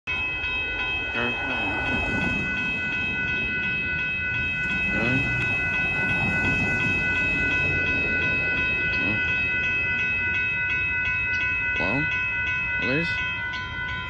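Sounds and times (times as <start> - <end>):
railroad crossing warning bell: 0.1 - 14.0.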